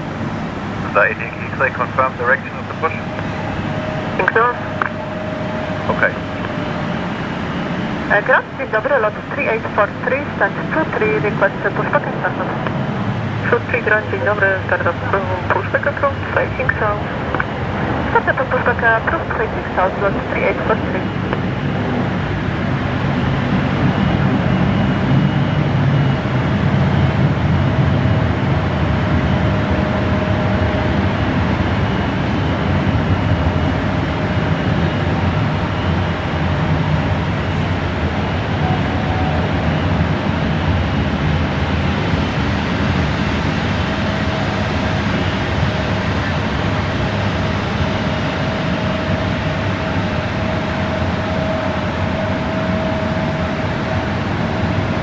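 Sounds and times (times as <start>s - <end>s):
faint engine whine: 0.0s - 55.0s
jet engine rumble: 0.0s - 55.0s.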